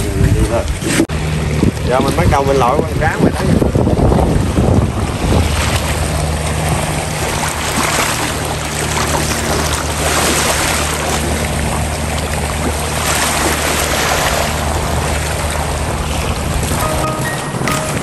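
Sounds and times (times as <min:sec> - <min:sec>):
sea noise: 0:00.0 - 0:18.0
wind: 0:00.0 - 0:18.0
boat engine humming: 0:01.1 - 0:18.0.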